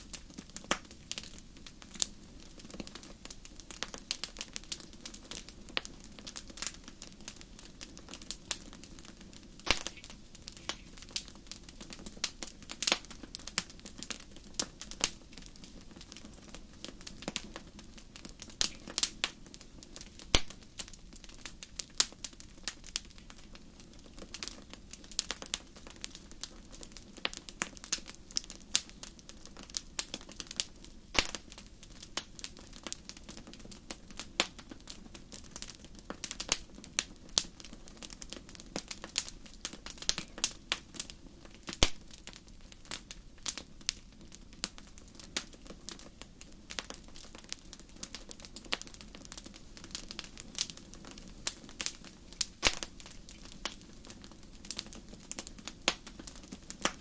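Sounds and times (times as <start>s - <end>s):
fire pops and snaps: 0.0s - 57.0s.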